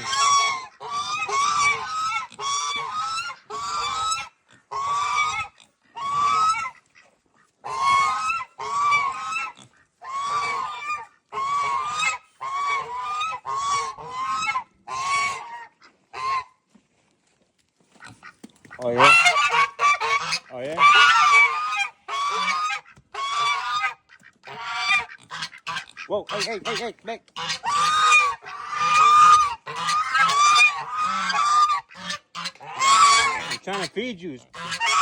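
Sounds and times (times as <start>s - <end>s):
fowl calling: 0.0s - 16.5s, 18.0s - 35.0s.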